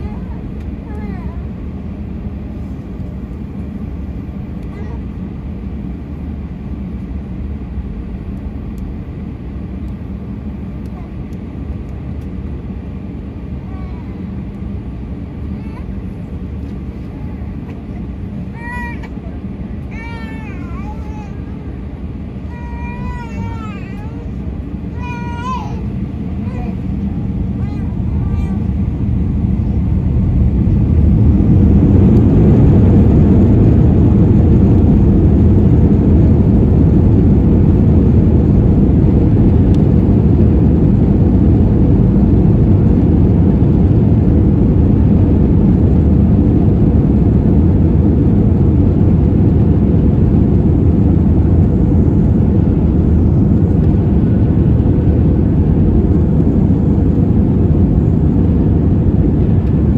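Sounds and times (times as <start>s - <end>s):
jet engines at takeoff thrust: 0.0s - 59.9s.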